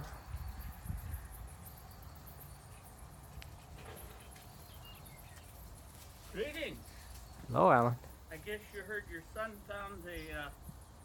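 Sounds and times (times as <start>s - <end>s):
faint high-pitched chirping: 0.0s - 11.0s.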